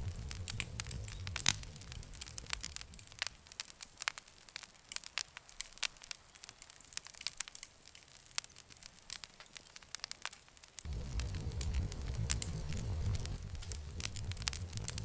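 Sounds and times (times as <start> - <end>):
campfire crackling: 0.0 - 15.0
faint hiss: 0.0 - 15.0.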